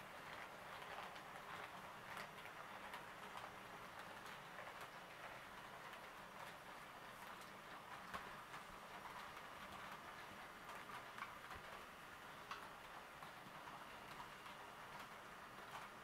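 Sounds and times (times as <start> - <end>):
model train wheels clicking: 0.0 - 16.0
quiet steady whir: 0.0 - 16.0.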